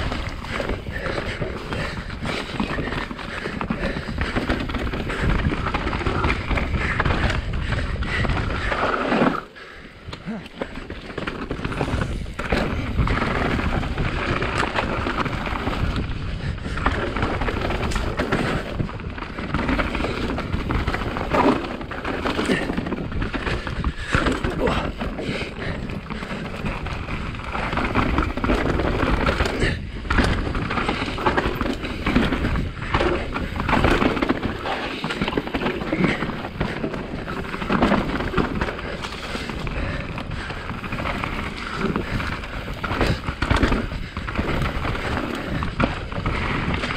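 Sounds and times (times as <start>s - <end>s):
bike clattering over bumps: 0.0s - 46.9s
bike tyres rolling on dirt: 0.0s - 46.9s.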